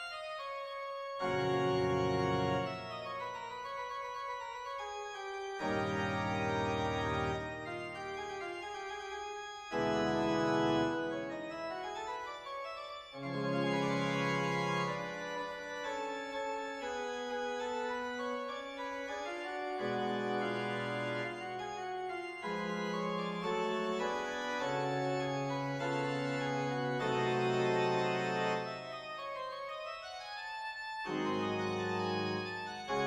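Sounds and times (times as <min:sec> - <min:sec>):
organ music: 0:00.0 - 0:33.0.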